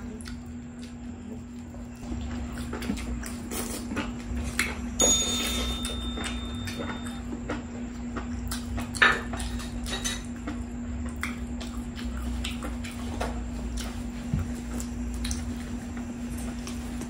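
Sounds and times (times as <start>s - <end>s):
wet chewing: 0.0s - 5.0s, 5.8s - 17.0s
steady low hum: 0.0s - 17.0s.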